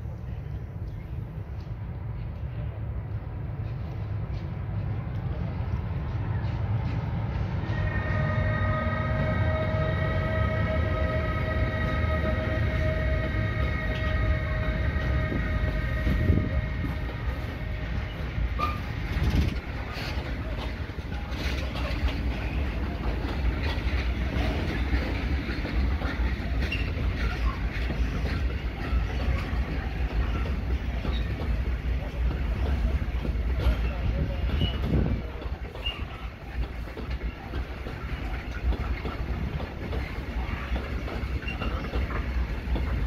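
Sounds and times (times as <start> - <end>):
freight train rumble: 0.0 - 43.0.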